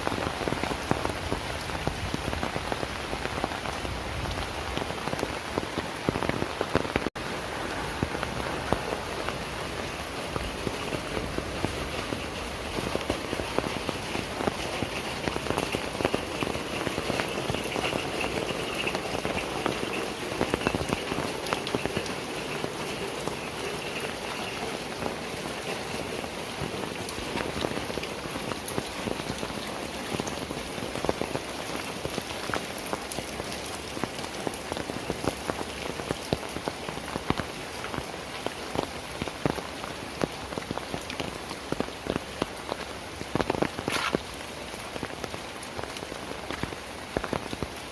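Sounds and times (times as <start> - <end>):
close raindrop hits: 0.0 - 47.9
heavy rain: 0.0 - 47.9.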